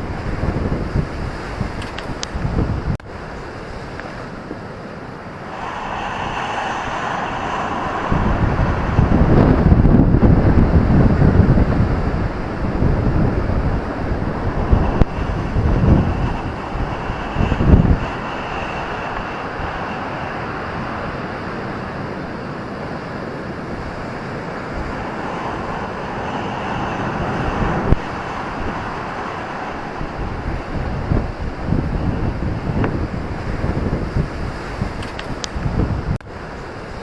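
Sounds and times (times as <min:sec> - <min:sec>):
ocean surf breaking on a beach: 0:00.0 - 0:37.0
wind buffeting the microphone: 0:00.0 - 0:37.0.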